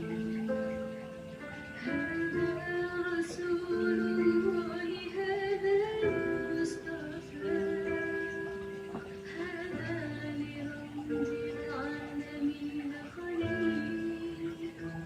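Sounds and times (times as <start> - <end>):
sung melody with long wavering notes: 0.0 - 15.0
sustained musical accompaniment: 0.0 - 15.0.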